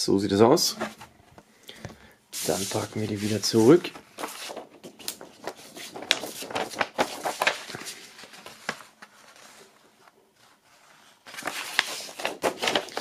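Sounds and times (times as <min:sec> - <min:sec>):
paper sleeve rustling and scraping: 0:02.4 - 0:13.0.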